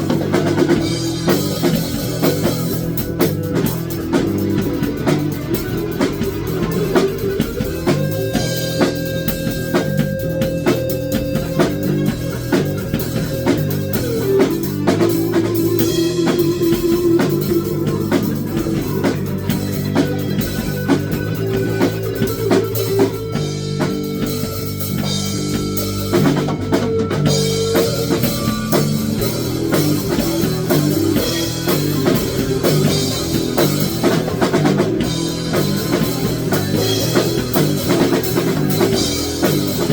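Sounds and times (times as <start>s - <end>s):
rock music with drums and guitar: 0.0s - 39.9s.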